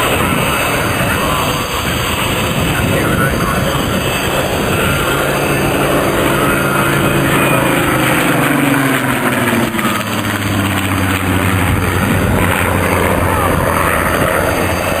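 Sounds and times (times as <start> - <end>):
aircraft engine passing: 0.0 - 15.0.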